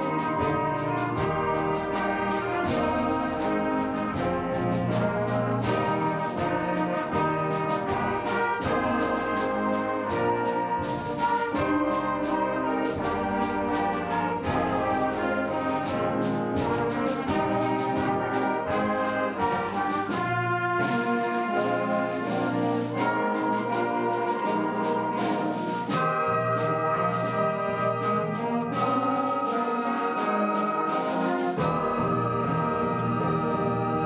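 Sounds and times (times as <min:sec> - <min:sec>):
concert band playing: 0:00.0 - 0:34.0
percussion strokes: 0:00.0 - 0:34.0.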